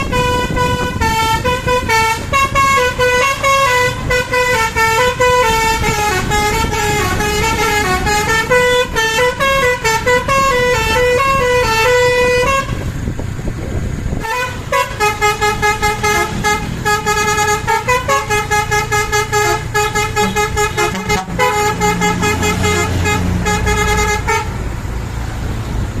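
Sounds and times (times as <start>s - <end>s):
bus musical horn playing tune: 0.0s - 12.9s, 14.2s - 24.9s
low engine rumble: 0.0s - 26.0s.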